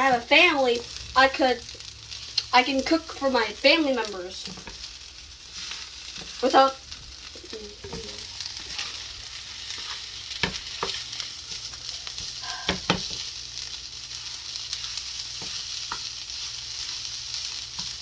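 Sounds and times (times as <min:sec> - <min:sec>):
rice sizzling in a hot pan: 0:00.0 - 0:18.0.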